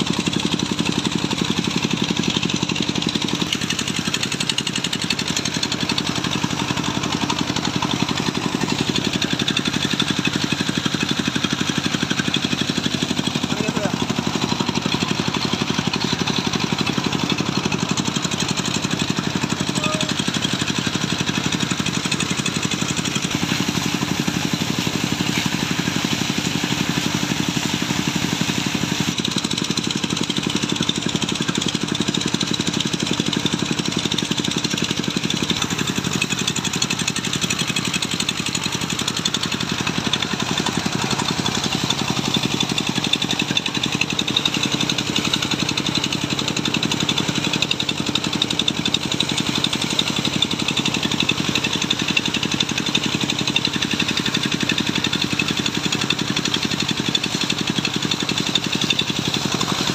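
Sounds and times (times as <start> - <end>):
high-pressure water jet hissing: 0.0 - 59.9
water pump engine running: 0.0 - 59.9.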